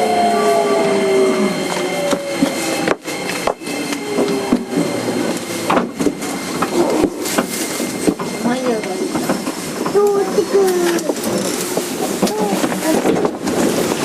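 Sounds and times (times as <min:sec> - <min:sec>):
train rolling noise: 0:00.0 - 0:14.0.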